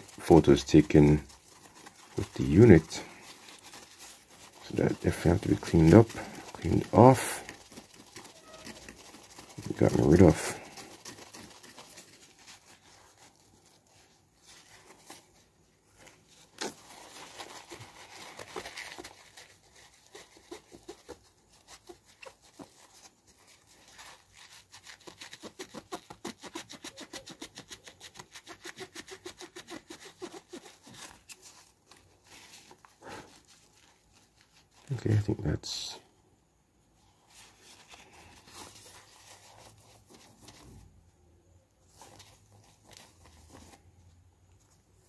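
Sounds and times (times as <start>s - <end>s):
cloth wiping phone screen: 0.0s - 36.0s, 37.0s - 41.0s.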